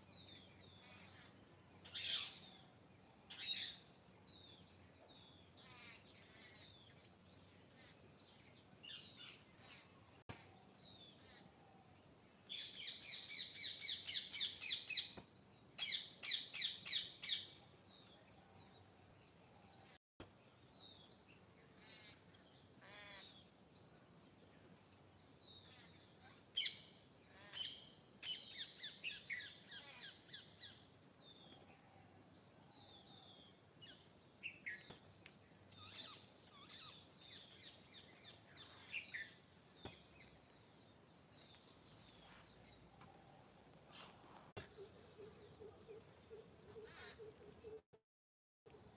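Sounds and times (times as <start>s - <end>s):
birds chirping: 3.3s - 47.8s.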